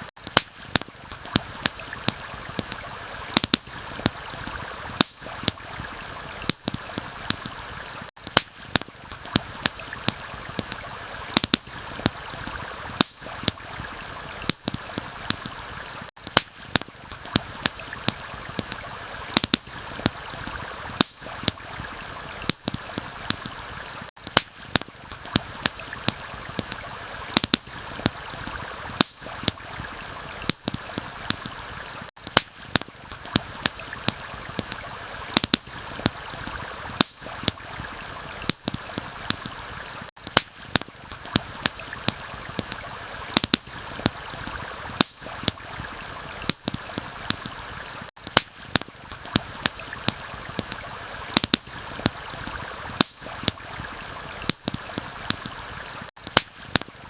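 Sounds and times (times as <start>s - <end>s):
campfire crackling: 0.0s - 57.0s
rushing stream: 0.0s - 57.0s.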